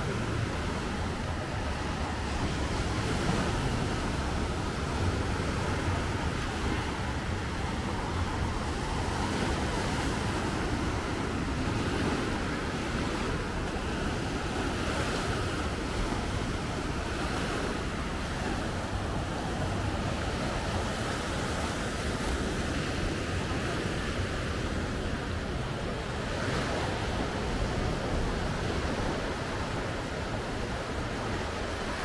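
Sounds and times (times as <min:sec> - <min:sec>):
waves washing up a beach: 0:00.0 - 0:32.0
wind rumbling on microphone: 0:00.0 - 0:32.0.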